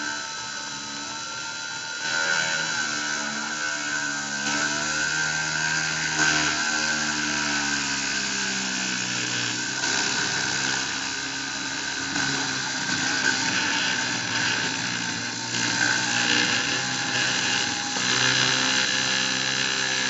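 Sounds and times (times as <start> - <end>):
rotary tool high whine: 0.0 - 20.0.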